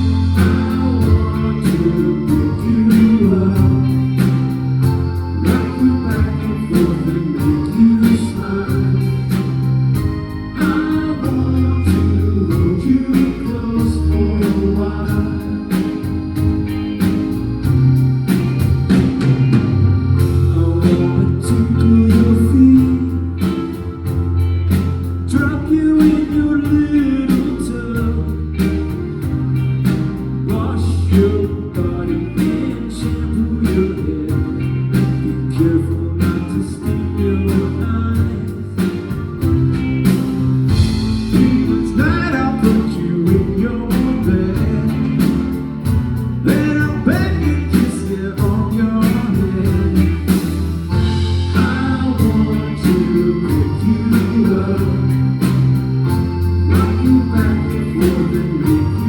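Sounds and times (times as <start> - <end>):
person singing: 0.0 - 16.6, 19.5 - 24.2, 25.2 - 29.4, 30.5 - 39.2, 40.7 - 45.7, 46.4 - 59.0
drums beat: 0.0 - 59.0
live pop-rock band: 0.0 - 59.0.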